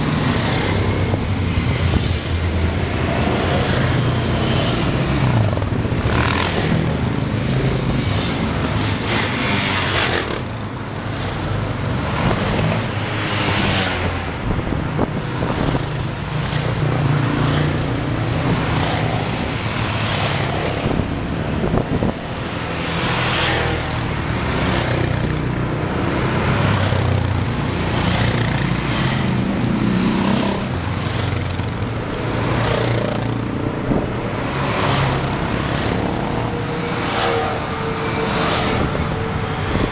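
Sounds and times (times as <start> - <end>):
quad bike engines passing: 0.0 - 39.9.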